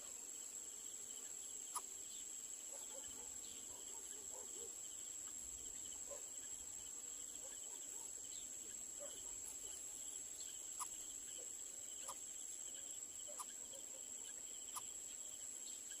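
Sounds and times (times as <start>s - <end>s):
insect pulsing trill: 0.0s - 16.0s
insects high thin drone: 0.0s - 16.0s.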